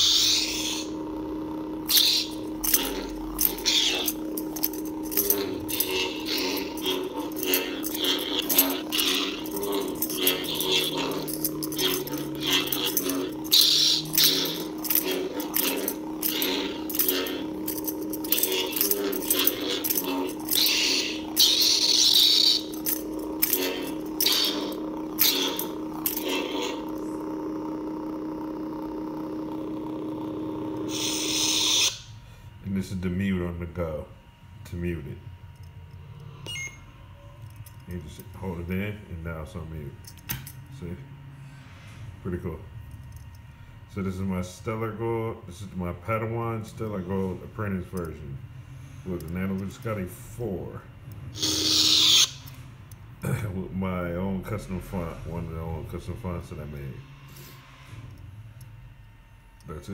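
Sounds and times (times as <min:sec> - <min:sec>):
lightsaber electric hum: 0:00.0 - 0:59.9.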